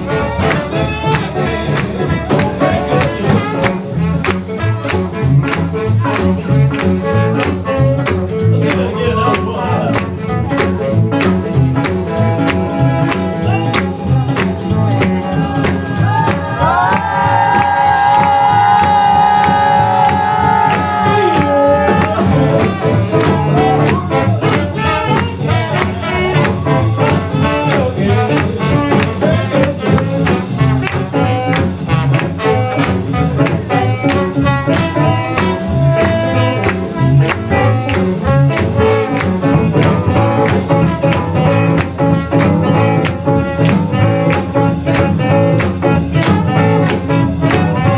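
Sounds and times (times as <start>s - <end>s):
swing jazz band playing: 0.0s - 47.9s.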